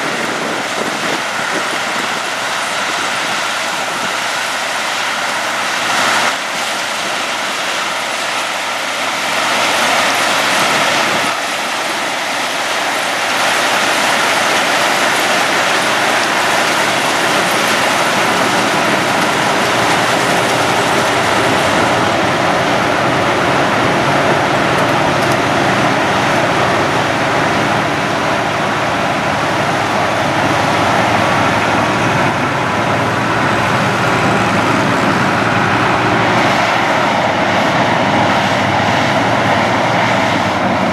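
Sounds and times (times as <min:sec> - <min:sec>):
harvesting machinery running: 0:00.0 - 0:40.9.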